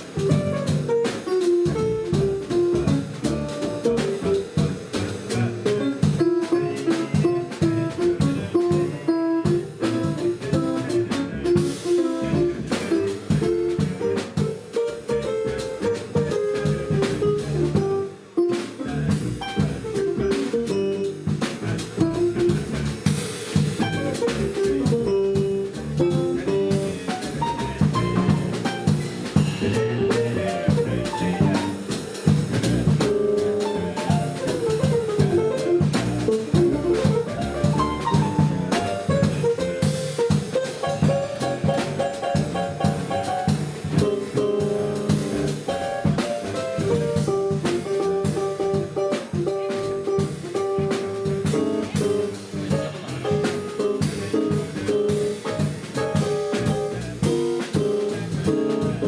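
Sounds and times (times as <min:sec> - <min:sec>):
drum kit beat: 0:00.0 - 0:59.0
jazz band playing: 0:00.0 - 0:59.0.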